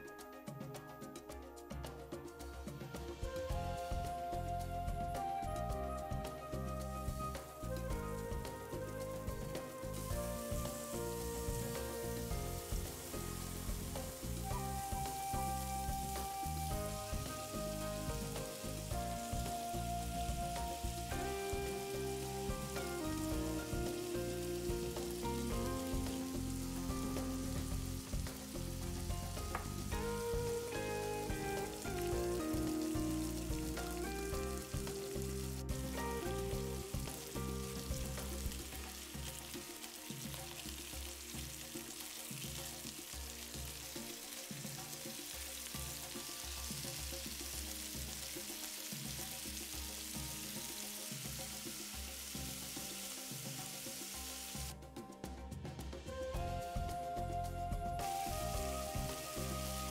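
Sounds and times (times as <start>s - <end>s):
background music: 0.0s - 59.9s
chicken sizzling in a pan: 7.0s - 54.7s, 58.0s - 59.9s.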